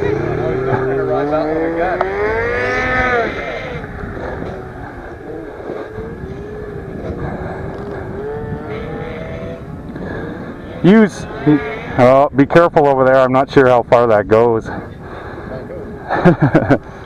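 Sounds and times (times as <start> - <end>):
snowmobile engine revving: 0.0 - 13.7.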